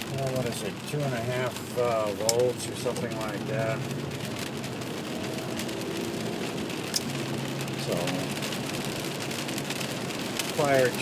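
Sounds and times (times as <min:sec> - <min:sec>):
rain on a car: 0:00.0 - 0:11.0
raindrop ticks: 0:00.0 - 0:11.0.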